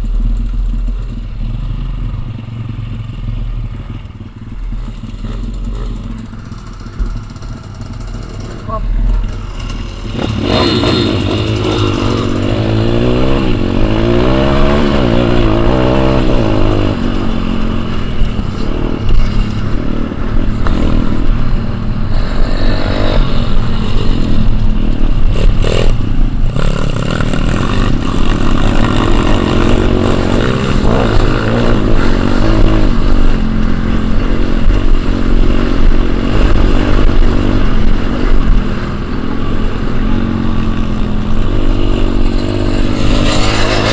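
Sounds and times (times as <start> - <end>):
wind rumble on microphone: 4.5 - 43.9
pit bike engine revving: 4.7 - 43.9.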